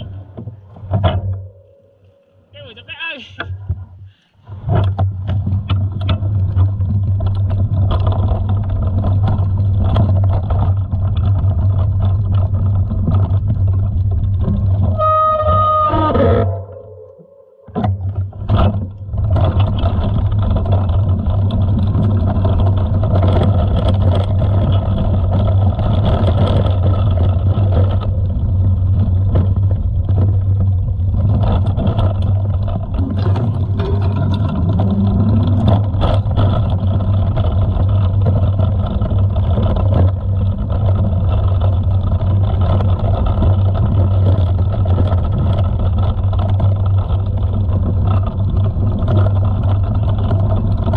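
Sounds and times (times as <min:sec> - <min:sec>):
low rumble of bike tyres: 0:00.0 - 0:50.9.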